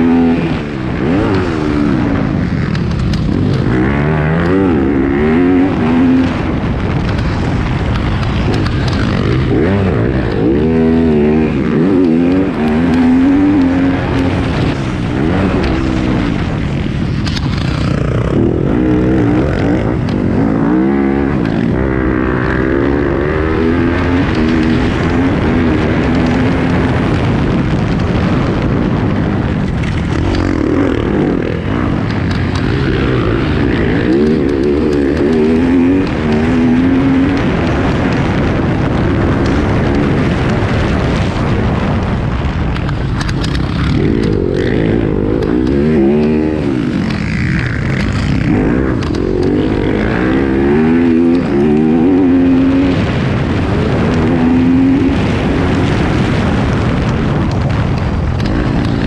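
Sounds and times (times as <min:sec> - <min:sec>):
motorcycle engine revving: 0:00.0 - 0:59.0
wind rush: 0:00.0 - 0:59.0.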